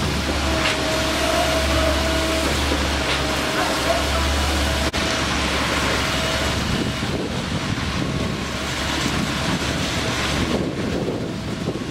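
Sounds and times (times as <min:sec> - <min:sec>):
concrete pump diesel drone: 0:00.0 - 0:11.9.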